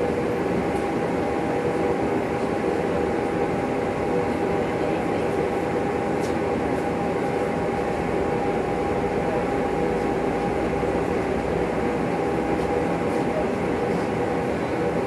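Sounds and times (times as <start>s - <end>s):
tram equipment hum and hiss: 0.0s - 15.0s.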